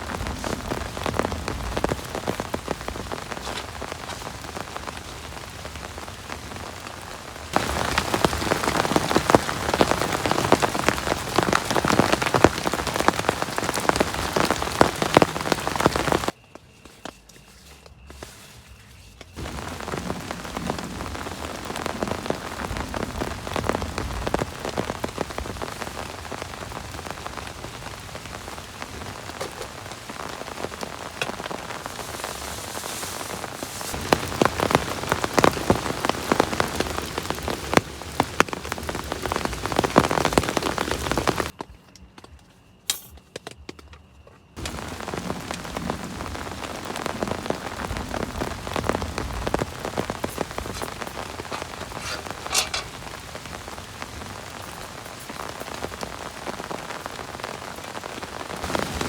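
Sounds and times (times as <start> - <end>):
heavy rain falling: 0.0 - 16.4, 19.4 - 41.6, 44.6 - 59.0.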